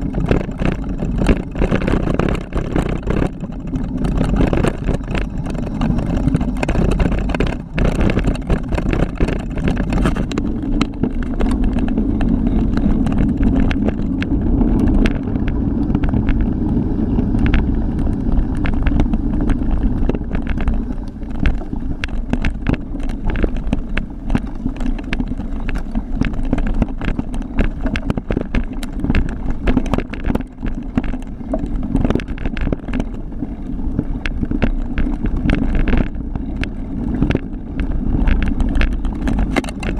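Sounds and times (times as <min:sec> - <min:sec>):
bike rattling over bumps: 0:00.0 - 0:39.9
wind and tyre rumble: 0:00.0 - 0:39.9.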